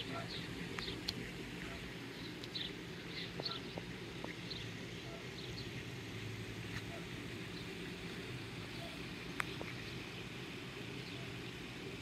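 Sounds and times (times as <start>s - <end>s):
swallows chirping: 0.0s - 6.0s, 6.8s - 11.7s
low background rumble: 0.0s - 12.0s.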